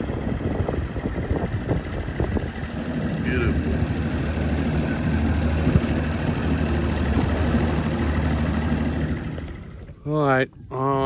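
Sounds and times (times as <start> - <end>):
rush of wind and water: 0.0 - 9.9
boat engine droning: 0.0 - 11.0.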